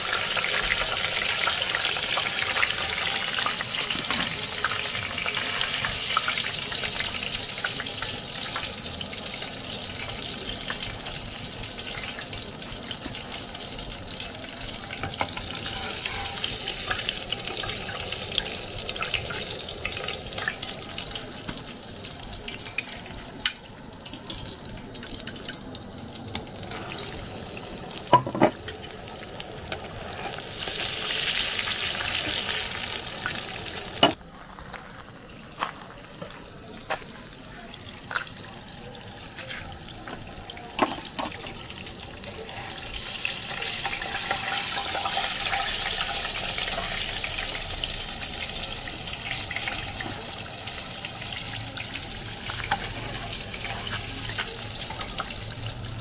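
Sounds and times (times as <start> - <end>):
food deep-frying in oil: 0.0 - 56.0.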